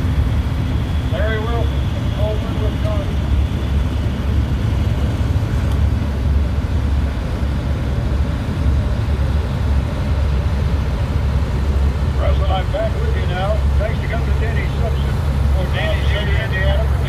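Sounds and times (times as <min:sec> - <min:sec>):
tractor engine rumbling: 0:00.0 - 0:17.0.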